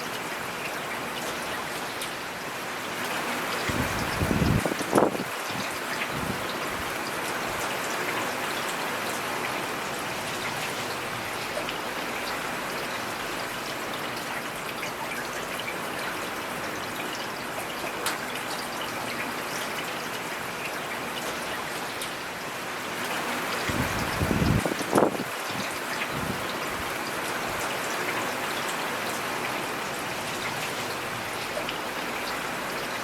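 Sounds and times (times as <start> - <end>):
rain falling in forest: 0.0 - 33.0.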